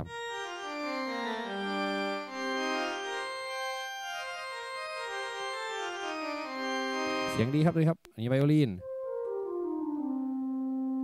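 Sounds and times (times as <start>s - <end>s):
electronic keyboard organ notes: 0.0s - 7.8s, 8.8s - 11.0s.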